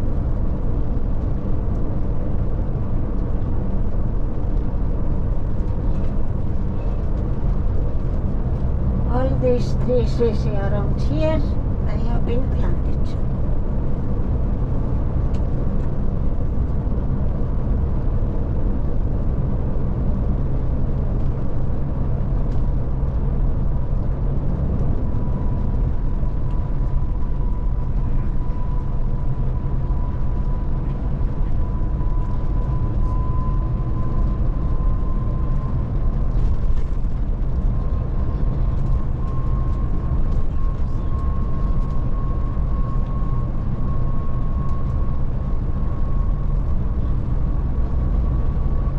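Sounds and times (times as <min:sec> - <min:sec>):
coach engine and road rumble: 0:00.0 - 0:48.9
faint rising whine: 0:00.0 - 0:48.9.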